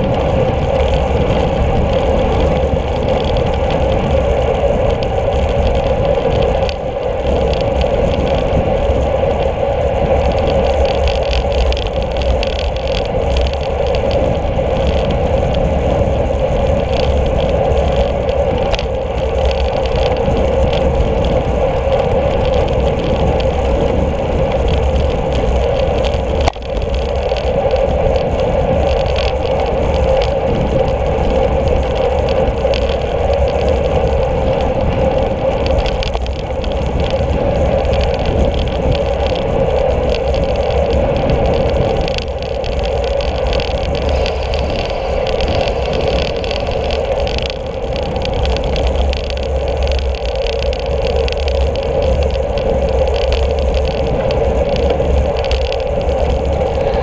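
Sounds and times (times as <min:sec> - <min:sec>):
bike tyres on asphalt: 0:00.0 - 0:57.0
wind rush on microphone: 0:00.0 - 0:57.0.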